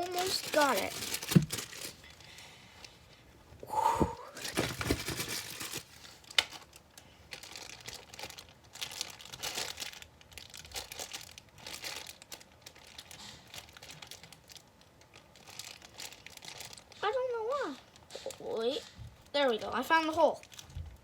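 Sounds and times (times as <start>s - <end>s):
plastic bag crinkling: 0.0s - 2.4s, 4.2s - 21.0s.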